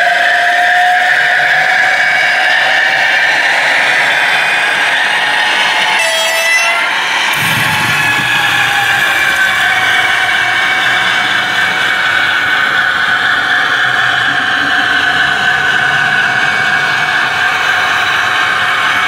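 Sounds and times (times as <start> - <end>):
model train whine and rumble: 0.0 - 19.0.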